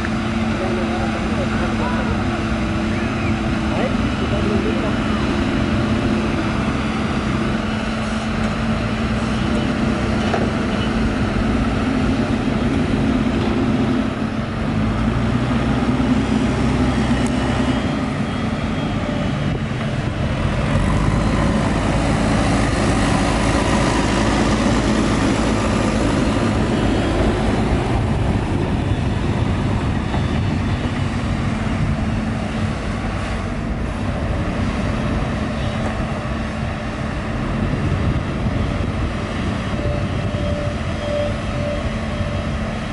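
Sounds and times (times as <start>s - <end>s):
deeper louder engine driving: 0.0s - 42.9s
diesel engines working: 0.0s - 42.9s.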